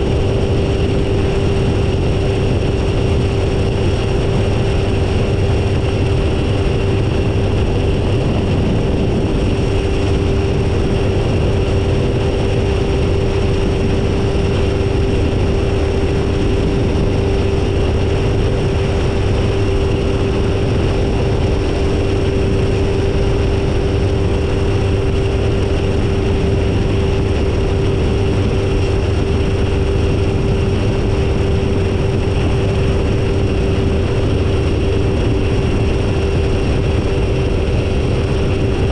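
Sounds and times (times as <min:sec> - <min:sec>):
ultralight engine and propeller droning: 0:00.0 - 0:38.9.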